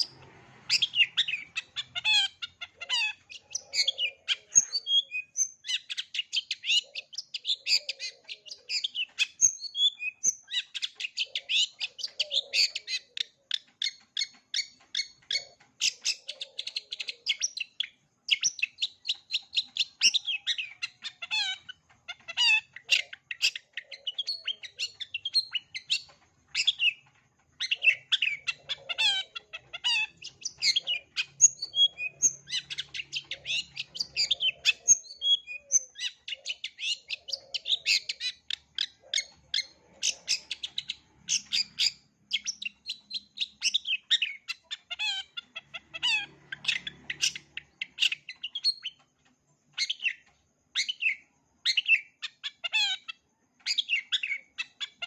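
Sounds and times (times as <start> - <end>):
bird singing varied chirps: 0.0 - 55.0.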